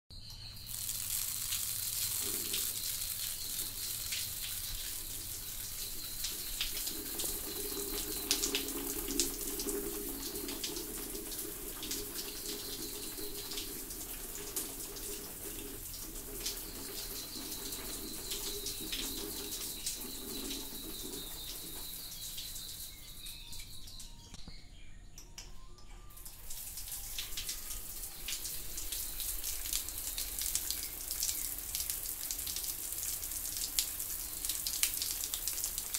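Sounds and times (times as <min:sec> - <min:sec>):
shower water spattering: 0:00.6 - 0:23.0, 0:26.3 - 0:35.9.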